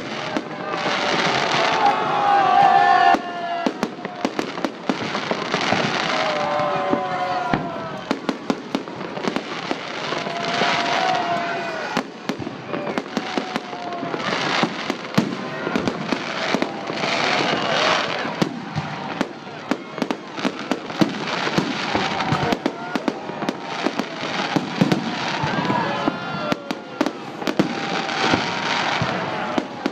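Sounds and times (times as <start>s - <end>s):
firework bangs: 0.0s - 29.9s
firework crackling: 0.0s - 29.9s.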